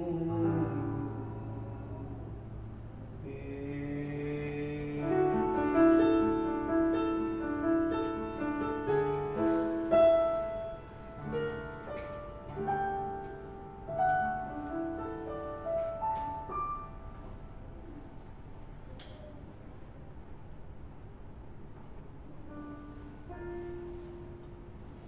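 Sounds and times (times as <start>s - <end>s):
piano melody over chords: 0.0s - 19.0s, 21.6s - 25.0s.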